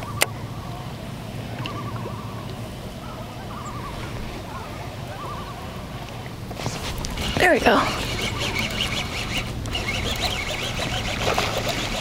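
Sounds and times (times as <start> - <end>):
water: 0.0 - 12.0
wind: 0.0 - 12.0
warbling bird calls: 1.5 - 12.0.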